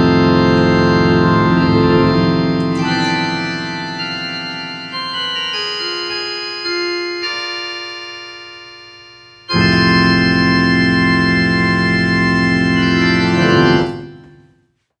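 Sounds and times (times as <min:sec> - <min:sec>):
organ chords: 0:00.0 - 0:14.6.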